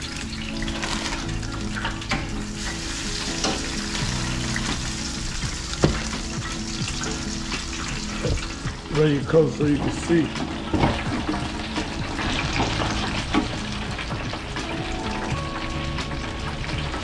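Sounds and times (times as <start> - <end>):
background music with low notes: 0.0 - 17.0
okra frying in hot oil: 0.0 - 17.0.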